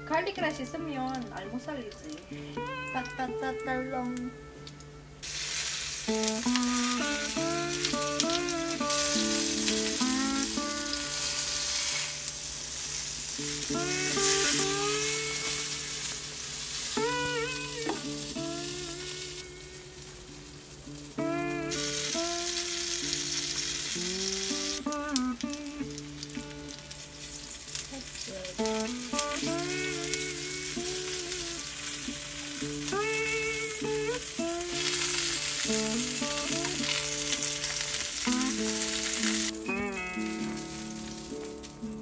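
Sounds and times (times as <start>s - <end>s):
light background music: 0.0s - 42.0s
sausages sizzling in frying pan: 0.0s - 42.0s
metal tongs turning food: 4.7s - 42.0s.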